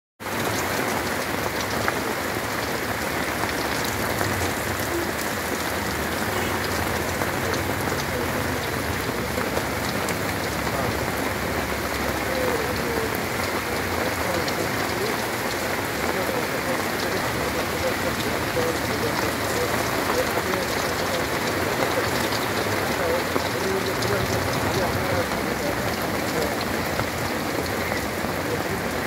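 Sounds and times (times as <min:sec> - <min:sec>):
heavy rain on brick paving: 0:00.2 - 0:29.0.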